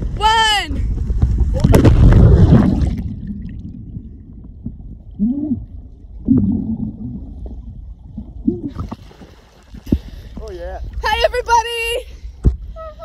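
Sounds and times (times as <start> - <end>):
low underwater rumble: 0.8 - 11.3.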